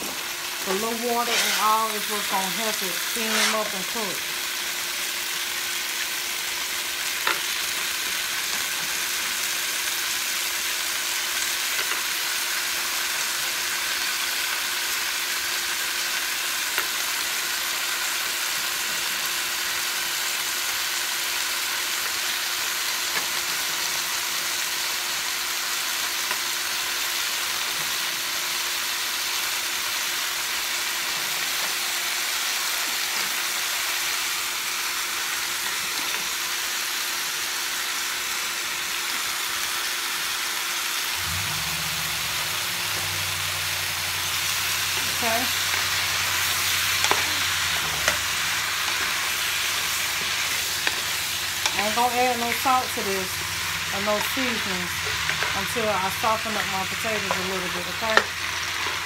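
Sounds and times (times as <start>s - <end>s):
food sizzling in a skillet: 0.0s - 59.0s.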